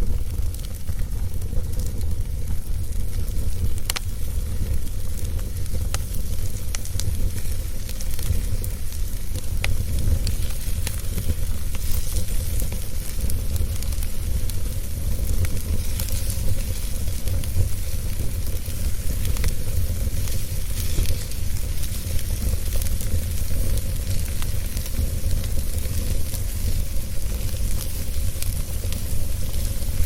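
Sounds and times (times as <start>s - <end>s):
campfire rumble and hiss: 0.0s - 30.0s
crackling wood pops: 0.0s - 30.0s.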